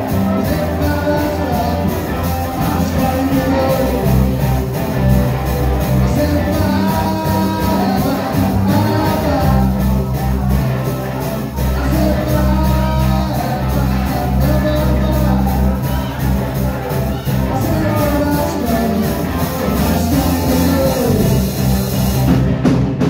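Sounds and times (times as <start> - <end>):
person singing: 0.0 - 22.2
drum beat: 0.0 - 23.0
rock band playing: 0.0 - 23.0.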